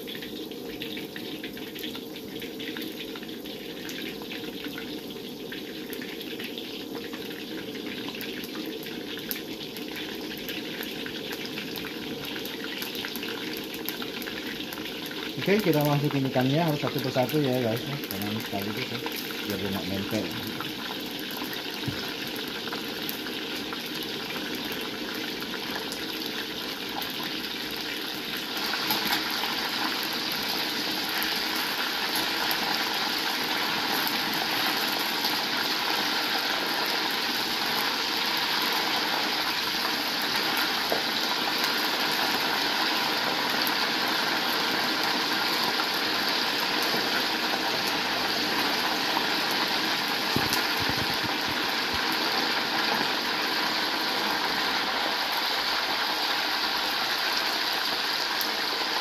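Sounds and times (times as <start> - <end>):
fish sizzling in hot oil: 0.0 - 59.0.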